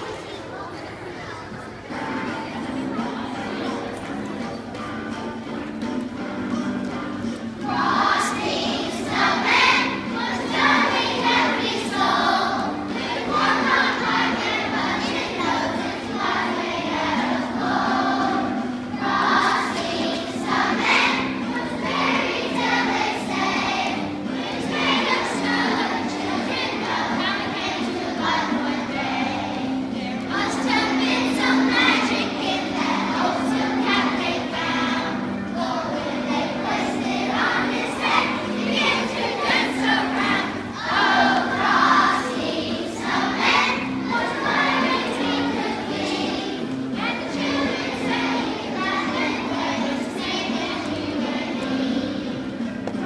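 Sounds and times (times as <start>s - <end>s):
children's choir singing a carol: 0.0s - 53.0s.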